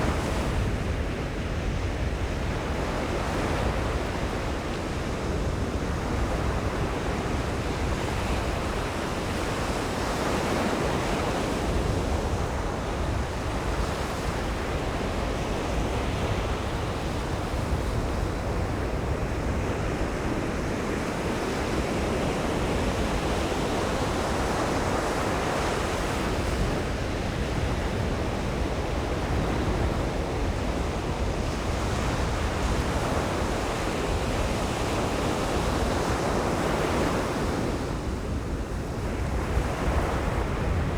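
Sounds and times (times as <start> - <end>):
ocean surf breaking on beach: 0.0 - 40.9
wind on microphone: 0.0 - 40.9.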